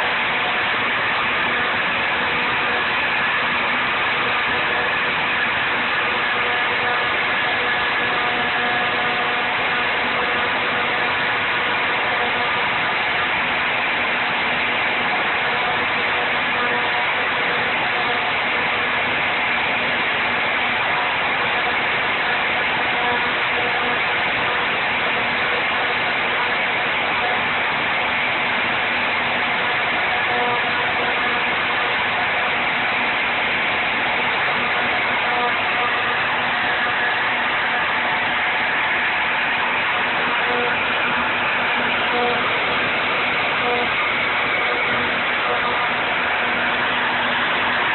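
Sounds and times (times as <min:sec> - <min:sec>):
router spindle carving metal: 0:00.0 - 0:47.9.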